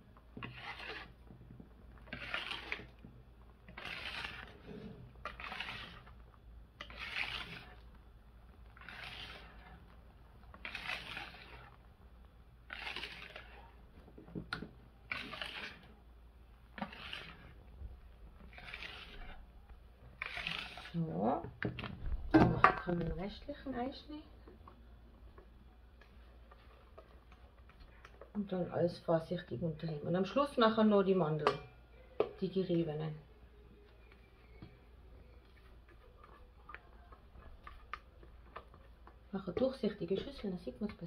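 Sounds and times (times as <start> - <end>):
whisk swishing in batter: 0.0 - 29.0, 33.4 - 41.0.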